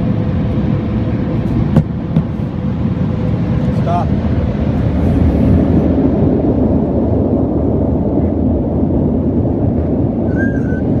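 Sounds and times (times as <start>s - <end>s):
car wash machinery rumbling: 0.0s - 11.0s.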